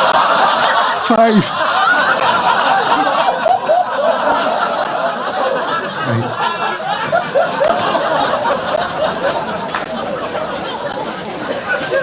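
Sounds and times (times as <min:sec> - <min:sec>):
general laughter: 0:00.0 - 0:12.0.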